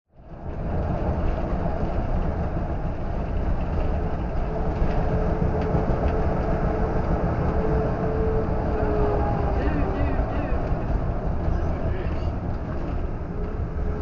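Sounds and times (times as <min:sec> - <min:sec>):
vehicle road noise from inside: 0:00.2 - 0:14.0.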